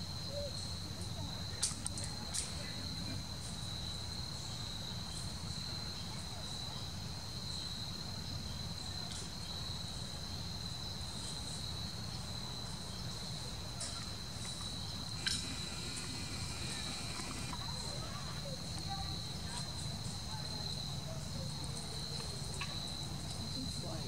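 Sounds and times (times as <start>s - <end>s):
high-pitched insect trill: 0.0s - 24.0s.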